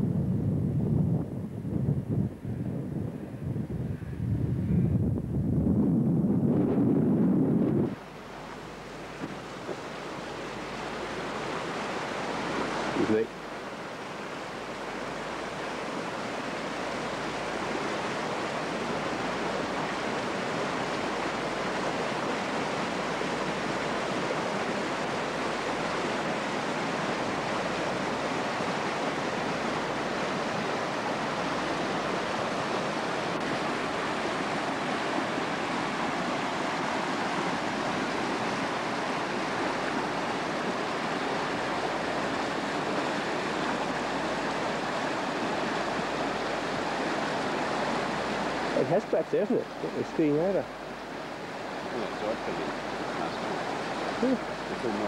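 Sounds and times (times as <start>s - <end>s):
creek rushing: 6.5s - 55.0s.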